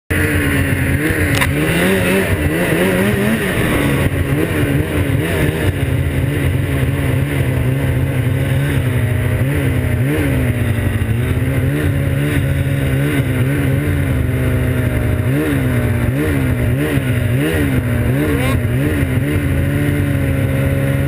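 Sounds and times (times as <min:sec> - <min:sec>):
snowmobile engine revving: 0:00.1 - 0:21.0.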